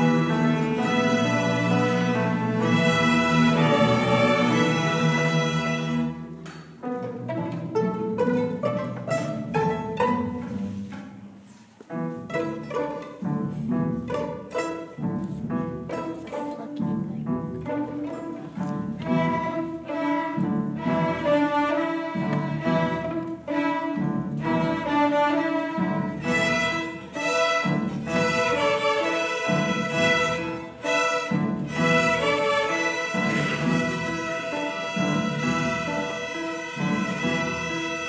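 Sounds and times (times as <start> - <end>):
lower strings in steady beats: 0.0 - 11.4, 12.0 - 38.0
bowed violins melody: 0.0 - 38.0.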